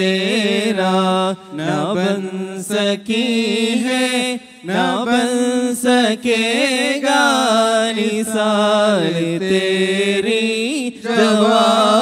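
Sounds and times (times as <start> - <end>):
men singing devotional song: 0.0 - 12.0.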